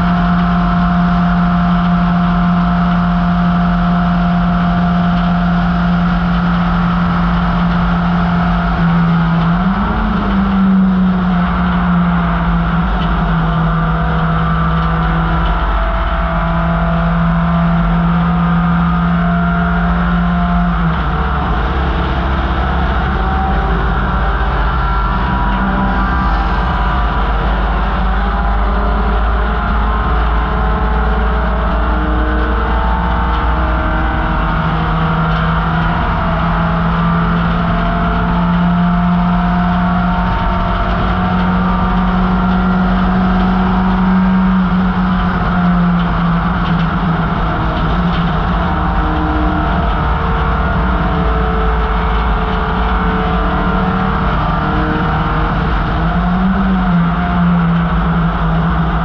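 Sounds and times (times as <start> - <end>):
race car engine at high revs: 0.0 - 59.0.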